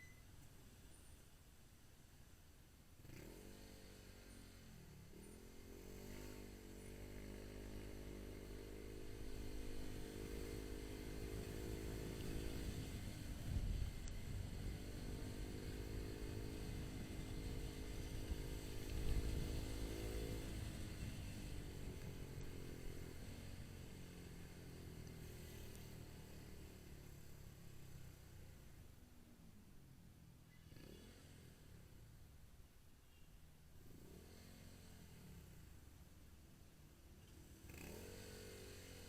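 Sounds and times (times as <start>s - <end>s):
motorcycle engine accelerating: 3.0s - 29.0s, 30.5s - 32.3s, 33.8s - 36.2s, 37.2s - 39.0s.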